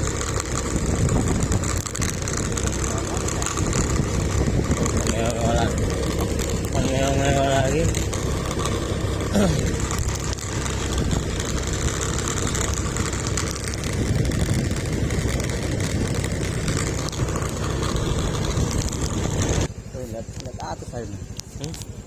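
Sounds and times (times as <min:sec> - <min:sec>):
road and wind noise: 0:00.0 - 0:22.0
vehicle engine running: 0:00.0 - 0:22.0.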